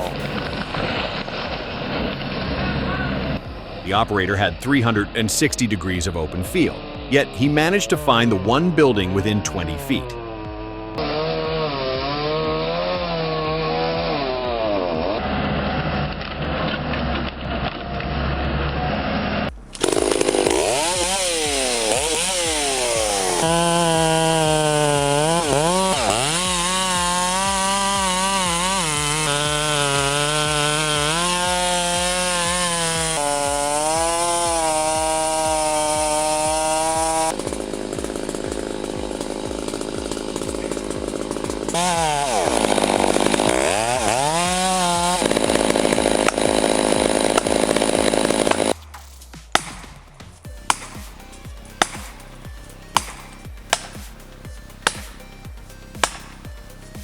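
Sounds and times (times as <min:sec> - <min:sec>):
brighter saw running: 0:00.0 - 0:48.8, 0:49.5 - 0:57.0
chainsaw revving: 0:00.0 - 0:48.9, 0:49.5 - 0:57.0.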